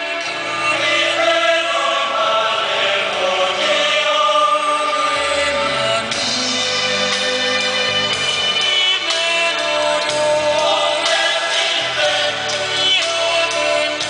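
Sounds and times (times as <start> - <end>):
choir singing held notes: 0.0 - 14.0.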